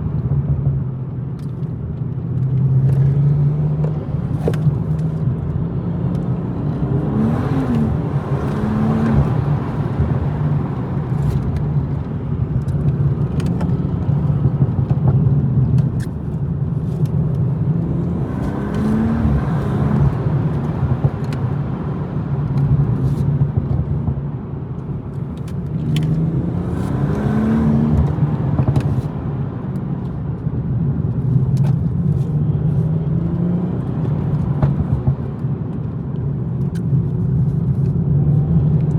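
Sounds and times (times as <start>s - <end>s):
tyre and road noise: 0.0s - 38.9s
car engine revving through gears: 2.4s - 24.0s, 25.1s - 30.1s, 30.7s - 35.6s.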